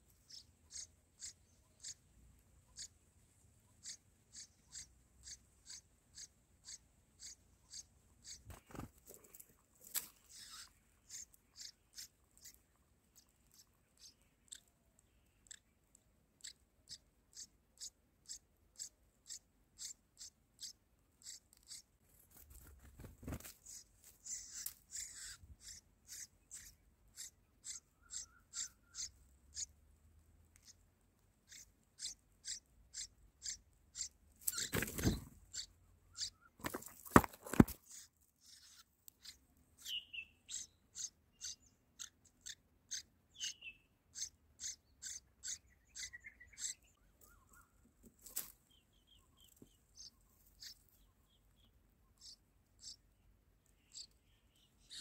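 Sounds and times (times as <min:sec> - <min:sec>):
nestlings begging chips: 0:00.2 - 0:02.0, 0:02.7 - 0:02.9, 0:03.8 - 0:29.8, 0:30.4 - 0:51.6, 0:52.2 - 0:55.0.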